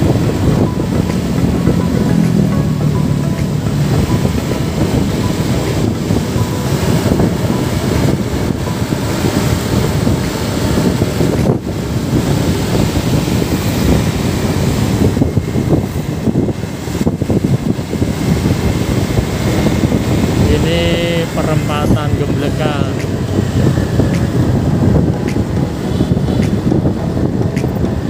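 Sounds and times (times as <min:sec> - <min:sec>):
motorcycle engine and road noise: 0:00.0 - 0:28.0
wind buffeting microphone: 0:00.0 - 0:28.0.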